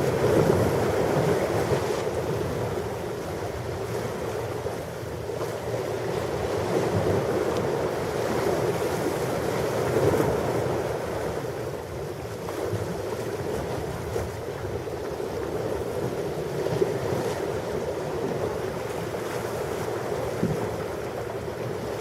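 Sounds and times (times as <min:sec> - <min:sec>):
ocean waves washing on shore: 0:00.0 - 0:22.0.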